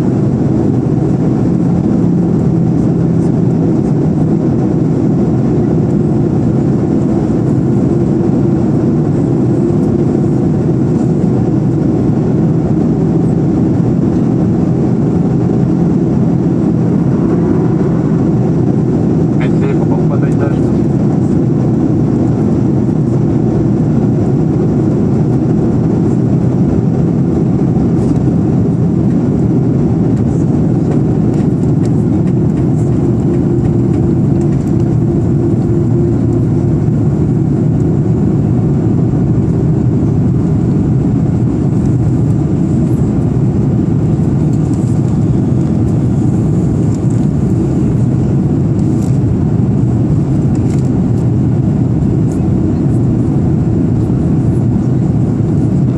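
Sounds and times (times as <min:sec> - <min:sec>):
airplane cabin engine roar: 0:00.0 - 0:55.9.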